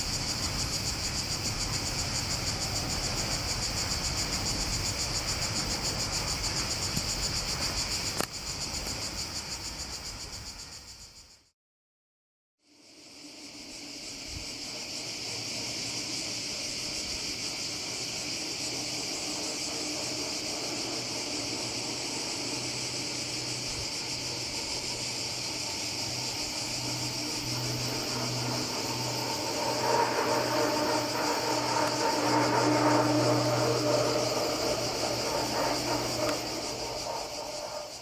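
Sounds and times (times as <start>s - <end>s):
train pulsing hum: 0.0s - 10.6s, 12.8s - 38.0s
insects buzzing: 0.0s - 11.4s, 12.7s - 38.0s.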